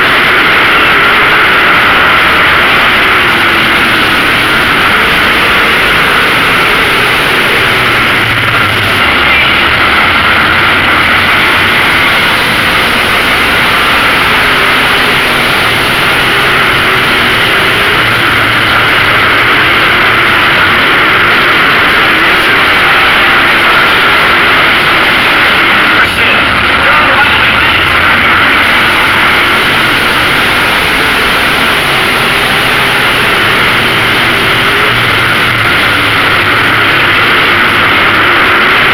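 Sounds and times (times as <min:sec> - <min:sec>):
race car engines: 0:00.0 - 0:38.9.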